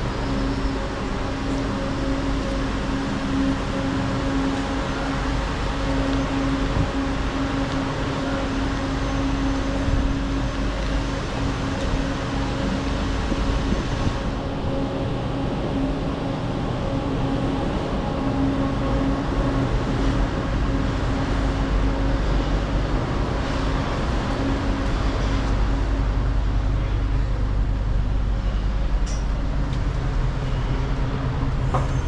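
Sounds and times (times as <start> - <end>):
train low rumble: 0.0 - 32.0.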